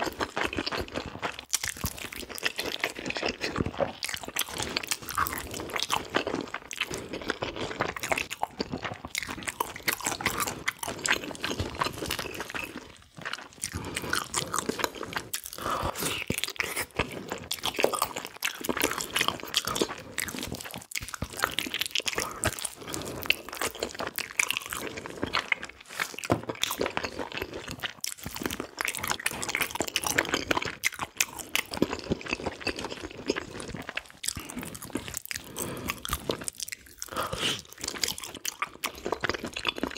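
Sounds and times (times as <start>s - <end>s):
crunchy chewing and biting: 0.0s - 39.9s.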